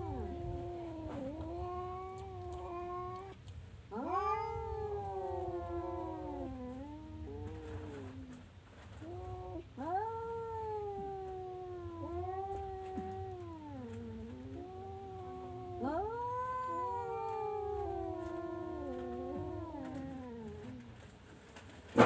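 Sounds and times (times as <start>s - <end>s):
cat yowling: 0.0s - 8.4s, 9.0s - 20.9s.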